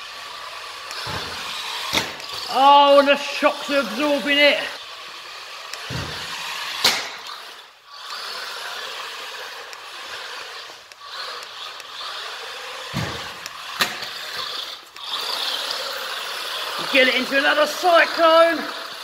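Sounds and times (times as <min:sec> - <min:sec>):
rc car motor whirring: 0:00.0 - 0:19.0.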